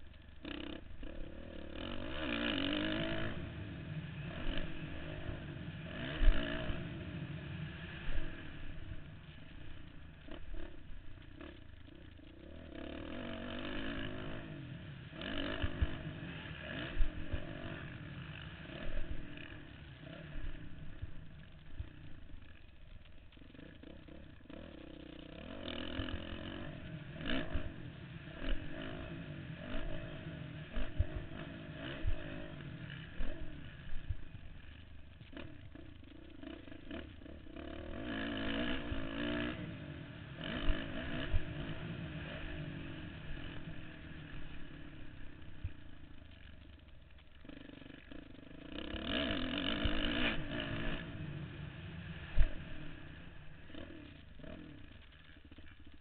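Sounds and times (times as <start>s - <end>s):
dirt bike engine revving: 0.0s - 56.0s
steady rushing noise: 0.0s - 56.0s.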